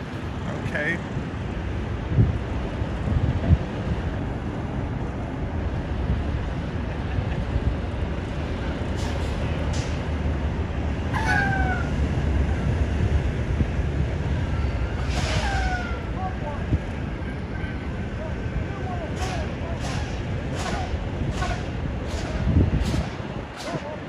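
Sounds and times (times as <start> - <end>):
diesel truck engine rumbling: 0.0 - 24.0.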